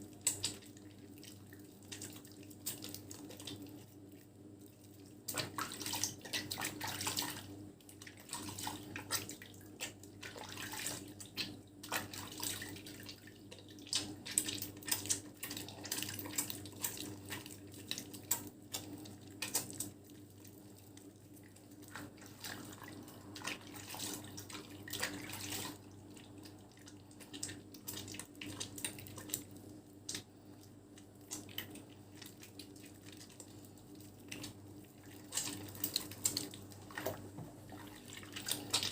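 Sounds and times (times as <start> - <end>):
soap foam squishing and crackling: 0.0 - 38.9.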